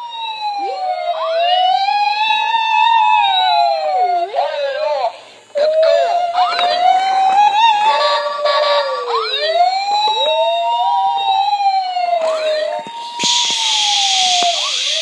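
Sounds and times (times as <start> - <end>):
toy siren wailing: 0.0 - 5.0, 5.6 - 15.0
steady hiss: 0.0 - 15.0.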